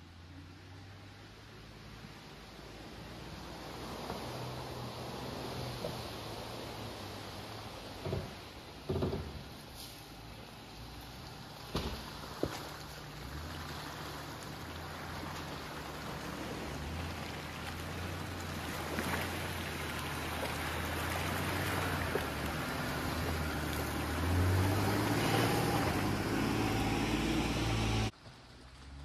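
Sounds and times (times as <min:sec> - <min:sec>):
tyres rushing through water and mud: 0:00.0 - 0:29.0
car engine pulling: 0:03.7 - 0:29.0.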